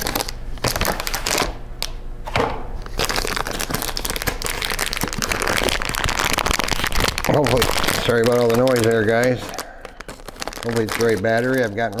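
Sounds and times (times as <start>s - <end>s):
plastic wrapping crinkling: 0.0s - 1.9s, 2.8s - 12.0s.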